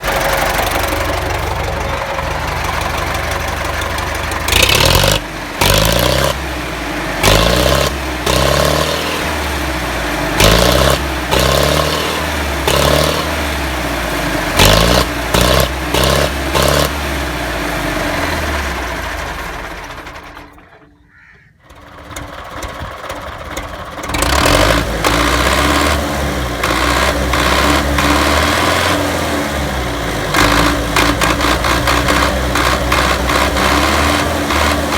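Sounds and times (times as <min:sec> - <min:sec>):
tractor diesel engine revving: 0:00.0 - 0:21.0, 0:21.6 - 0:34.9.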